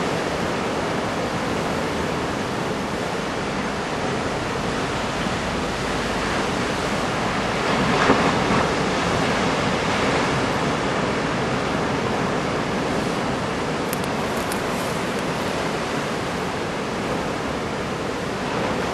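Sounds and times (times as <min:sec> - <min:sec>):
heavy surf breaking: 0:00.0 - 0:18.9
wind: 0:00.0 - 0:18.9.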